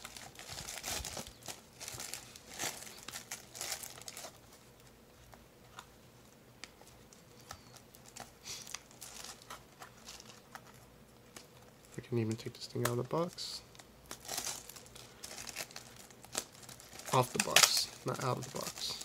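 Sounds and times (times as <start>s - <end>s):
plastic shrink wrap crinkling: 0.0s - 4.9s, 6.7s - 19.0s.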